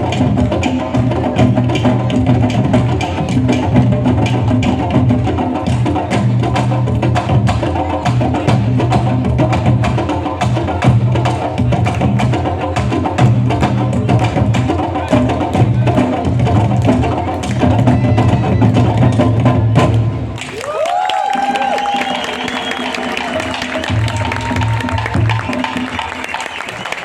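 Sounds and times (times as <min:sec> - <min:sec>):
group drumming fast strokes: 0:00.0 - 0:27.0.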